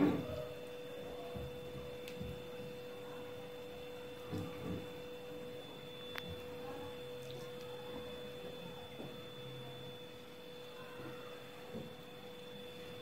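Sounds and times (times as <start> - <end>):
steady humming tone: 0.0 - 13.0.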